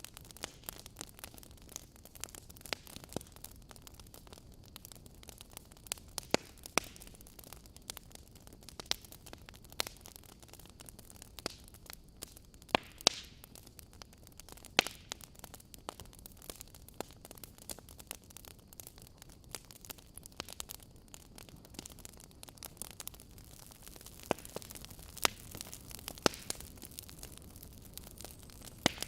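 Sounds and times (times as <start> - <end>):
fire hissing softly: 0.0 - 29.0
logs crackling and popping: 0.0 - 29.0.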